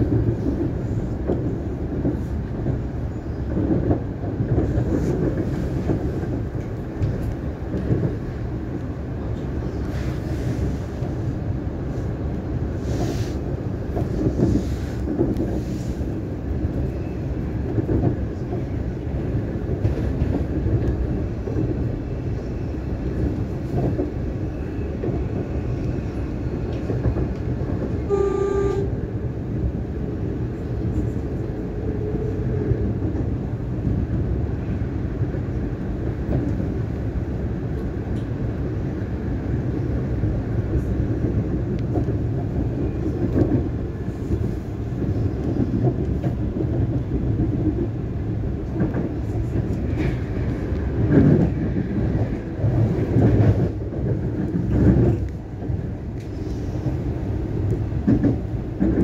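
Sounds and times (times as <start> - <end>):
train wheels and motors rumbling: 0.0 - 59.0.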